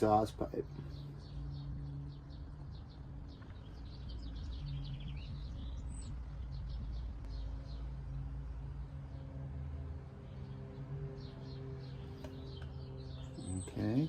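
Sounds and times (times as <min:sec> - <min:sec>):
birds chirping and twittering: 0:00.0 - 0:14.0
steady low hum: 0:00.0 - 0:14.0.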